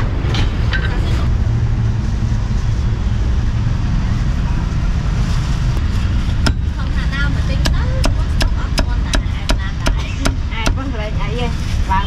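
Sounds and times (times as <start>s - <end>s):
motorbikes and cars passing: 0.0s - 12.0s
street traffic rumble: 0.0s - 12.0s.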